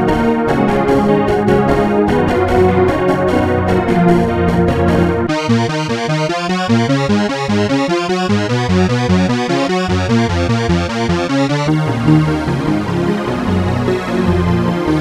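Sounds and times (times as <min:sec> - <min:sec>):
low bass line: 0:00.2 - 0:15.0
synthesizer notes: 0:00.2 - 0:15.0.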